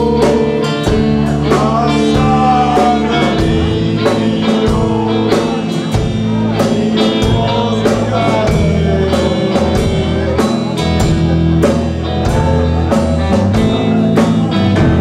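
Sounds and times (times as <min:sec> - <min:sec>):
amplified electric guitar: 0:00.0 - 0:15.0
drum kit beat: 0:00.0 - 0:15.0.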